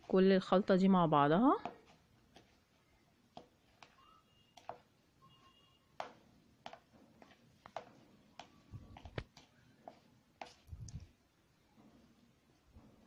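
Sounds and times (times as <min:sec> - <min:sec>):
wet squelches of kneading food: 0:00.0 - 0:11.3.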